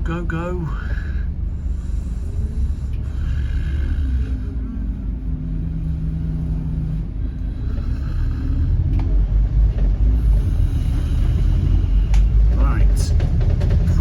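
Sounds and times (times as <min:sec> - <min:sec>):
bus diesel engine rumble: 0:00.0 - 0:14.0.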